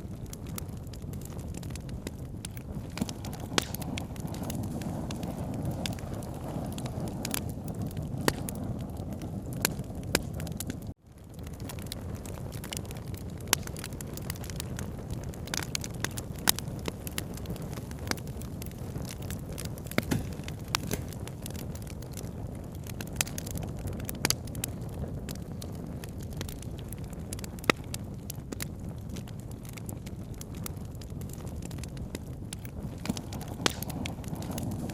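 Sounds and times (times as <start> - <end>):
campfire pops and snaps: 0.0 - 34.9.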